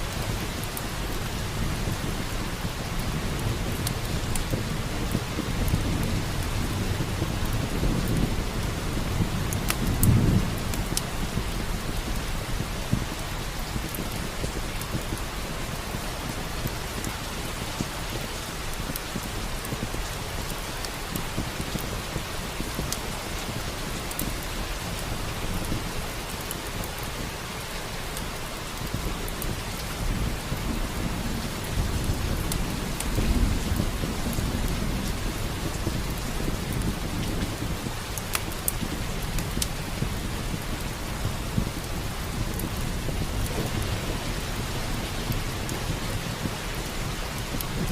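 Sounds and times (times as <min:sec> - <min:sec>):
heavy rain: 0:00.0 - 0:47.9
wood fire crackling: 0:00.0 - 0:47.9.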